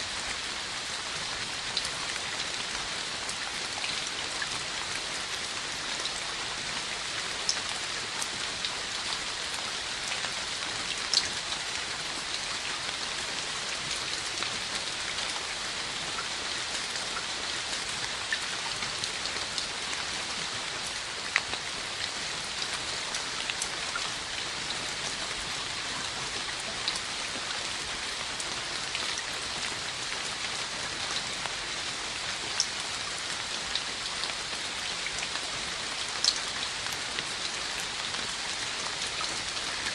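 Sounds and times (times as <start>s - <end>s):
rain falling: 0.0s - 39.9s
raindrops ticking close by: 0.0s - 39.9s.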